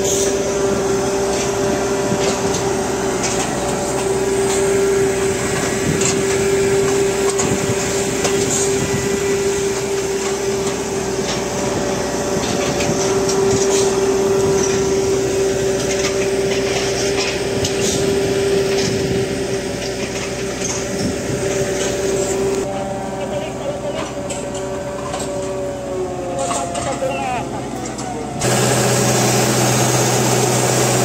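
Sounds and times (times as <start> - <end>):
engine and hydraulic machine noise: 0.0 - 31.0
tensioner machine whine: 0.0 - 31.0.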